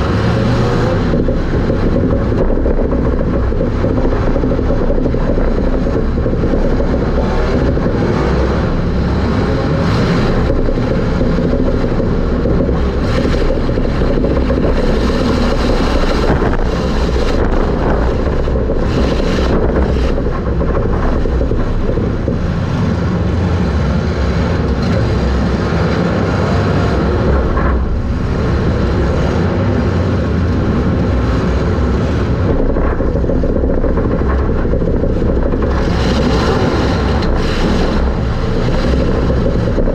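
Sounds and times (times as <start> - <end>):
race car engine running hard: 0.0 - 39.9
wind and rumble: 0.0 - 39.9.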